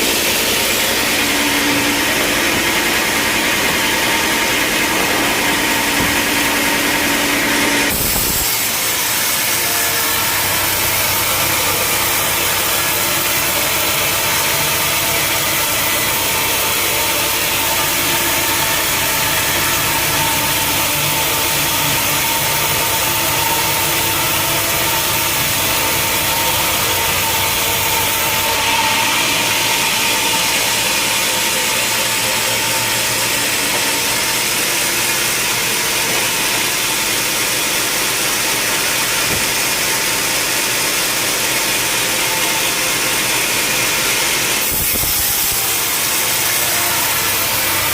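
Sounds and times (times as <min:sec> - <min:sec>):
sawmill machinery whine: 0:00.0 - 0:47.9.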